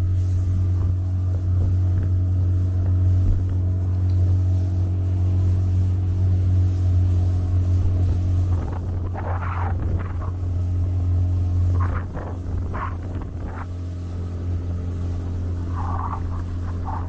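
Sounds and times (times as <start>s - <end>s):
boat engine running steadily: 0.0s - 17.0s.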